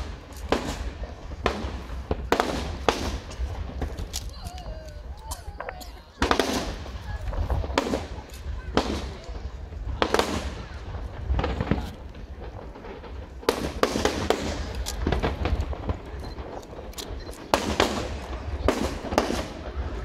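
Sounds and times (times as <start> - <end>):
fireworks bangs echoing: 0.0 - 20.0.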